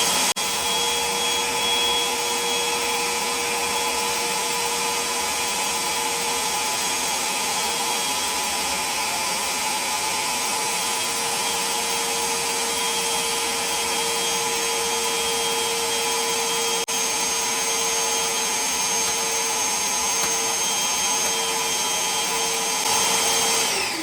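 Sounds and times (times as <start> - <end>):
wet vacuum cleaner sucking water: 0.0 - 24.0.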